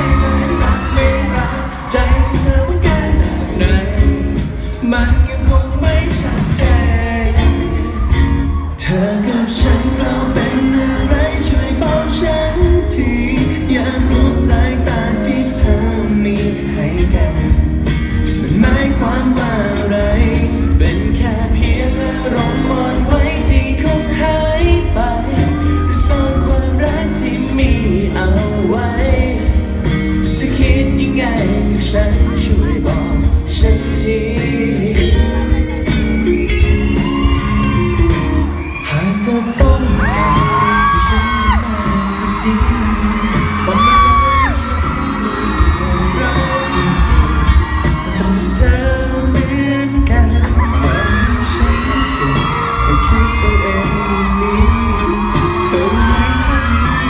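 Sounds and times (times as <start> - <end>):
heavy bass beat: 0.0 - 57.0
male group singing pop live: 0.0 - 57.0.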